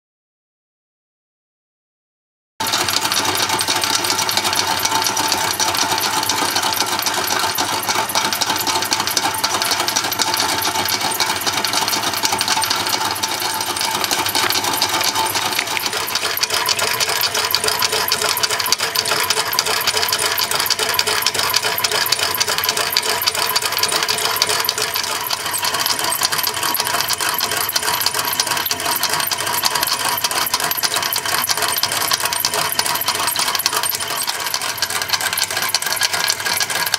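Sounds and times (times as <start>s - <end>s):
toy mechanism clattering: 2.6s - 36.9s.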